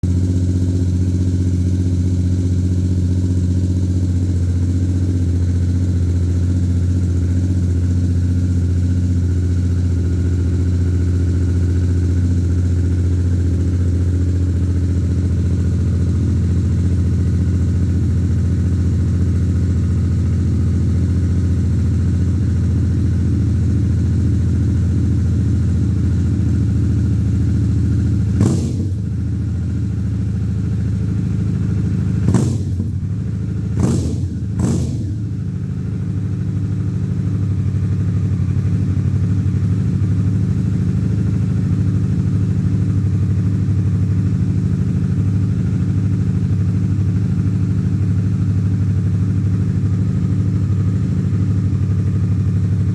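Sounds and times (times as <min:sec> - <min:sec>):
motorcycle engine idling: 0:00.0 - 0:52.9.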